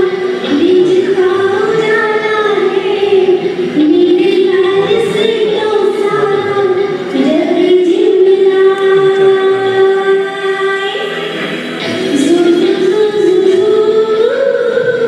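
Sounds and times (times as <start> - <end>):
musical accompaniment: 0.0 - 15.0
person singing sliding notes: 0.0 - 15.0.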